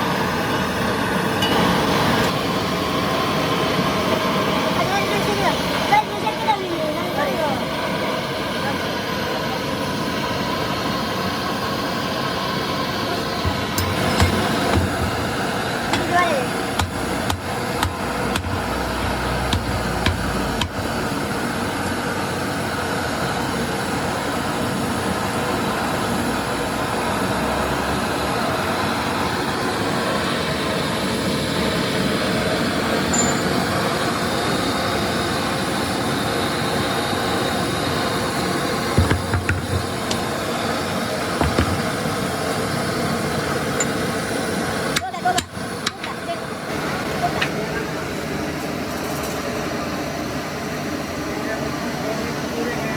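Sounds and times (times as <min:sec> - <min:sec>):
machine running noise: 0:00.0 - 0:52.9.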